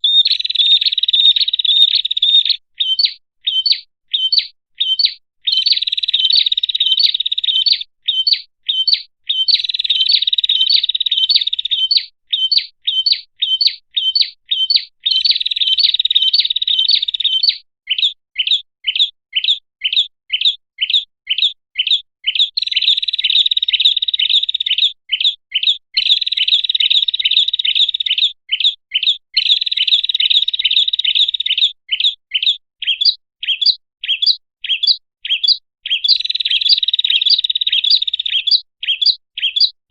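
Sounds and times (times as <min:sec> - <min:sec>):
bird chattering trills: 0:00.0 - 0:39.8
sharp bird chirps: 0:00.0 - 0:39.9.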